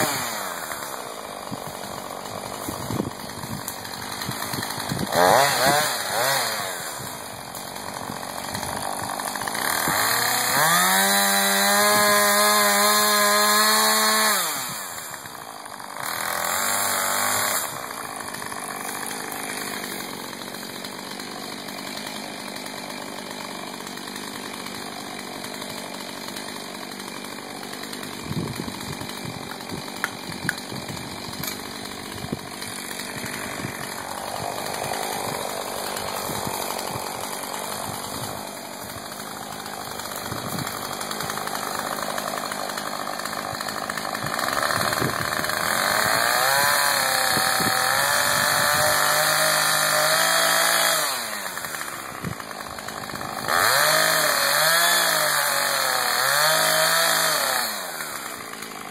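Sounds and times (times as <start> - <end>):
chainsaw revving and idling: 0.0 - 58.9.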